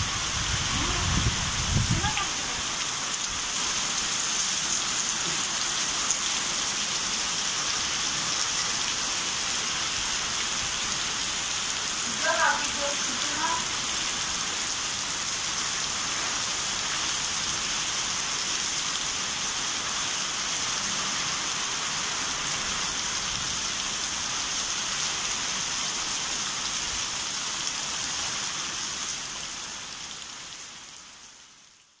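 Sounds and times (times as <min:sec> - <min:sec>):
heavy rain on metal roofs: 0:00.0 - 0:32.0.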